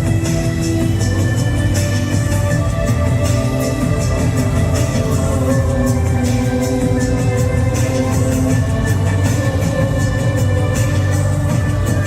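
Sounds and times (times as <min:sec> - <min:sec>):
instrumental music with steady beat: 0:00.0 - 0:12.0.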